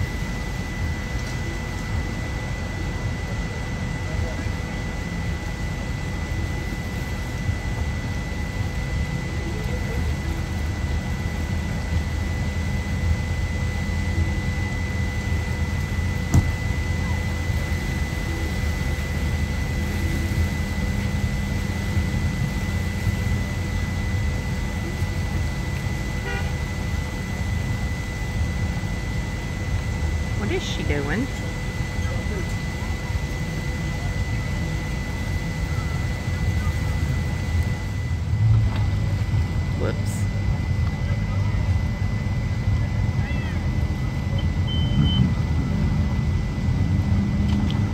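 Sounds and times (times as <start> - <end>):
engines idling: 0.0 - 47.9.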